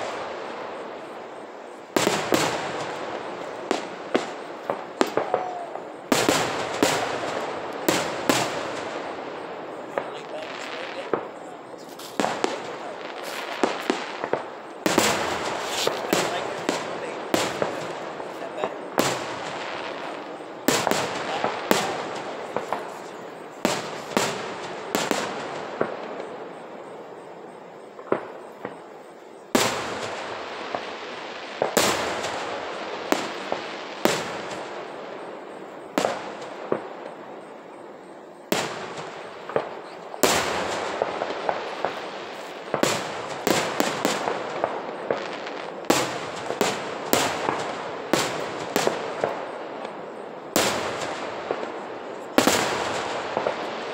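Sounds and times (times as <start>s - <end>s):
firework shells booming: 0.0s - 53.9s.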